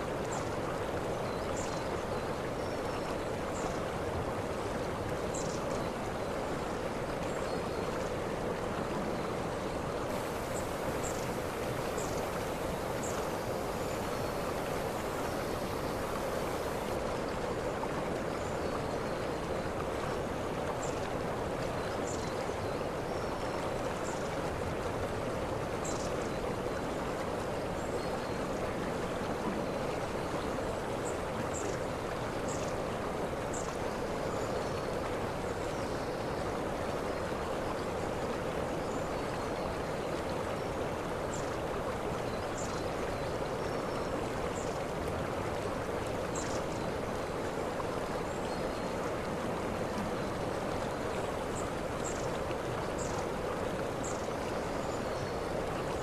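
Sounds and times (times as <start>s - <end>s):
waterfall: 0.0s - 56.0s.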